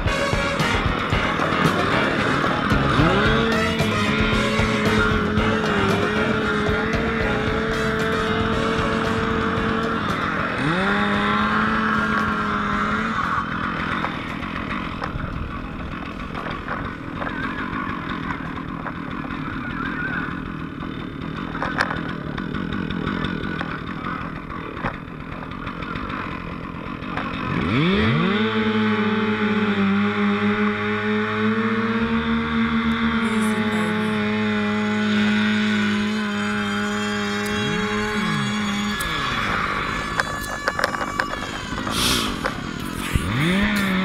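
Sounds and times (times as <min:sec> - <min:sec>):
gas-powered saw revving: 0:00.0 - 0:44.0.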